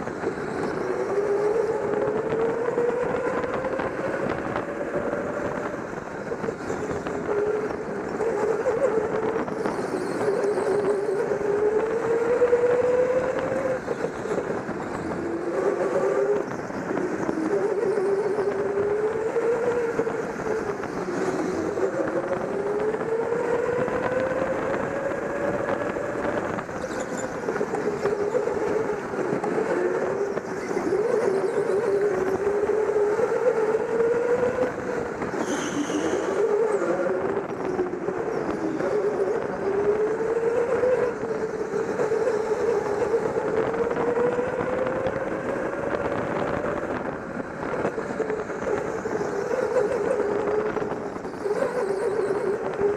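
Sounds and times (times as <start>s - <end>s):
go-kart engine revving: 0.0s - 52.9s.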